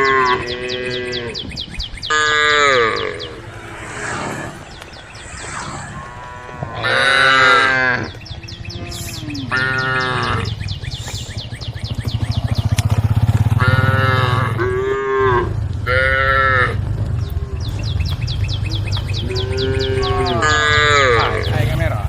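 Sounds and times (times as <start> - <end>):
cattle mooing: 0.0 - 1.5, 2.1 - 10.6, 13.6 - 21.8
steady low rumble: 0.5 - 20.2.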